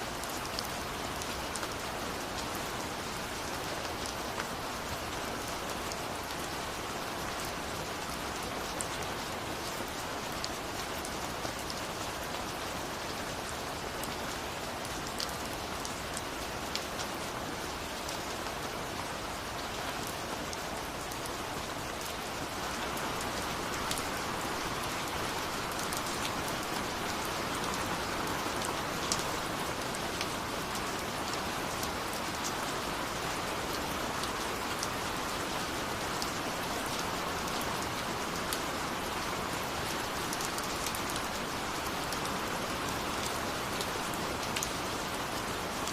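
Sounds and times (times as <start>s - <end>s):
steady rain hiss: 0.0s - 45.9s.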